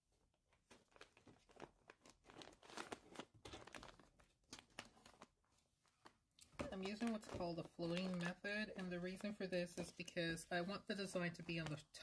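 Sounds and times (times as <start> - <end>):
stabilizer sheet crinkling: 0.4 - 10.2.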